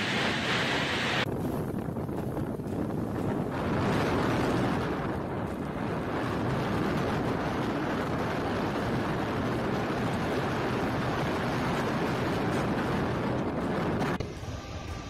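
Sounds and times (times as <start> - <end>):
vehicle driving through wind and rain: 0.0 - 15.0.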